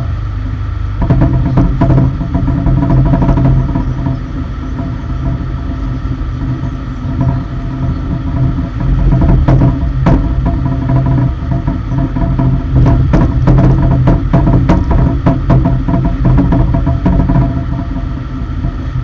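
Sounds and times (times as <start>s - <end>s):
loader engine humming with whine: 0.0s - 19.0s
sharp knocks or clicks: 1.0s - 18.8s.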